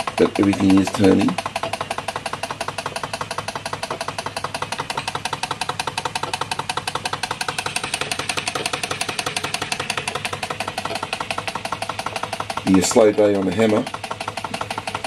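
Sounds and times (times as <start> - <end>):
toy steam engine running: 0.0 - 15.0.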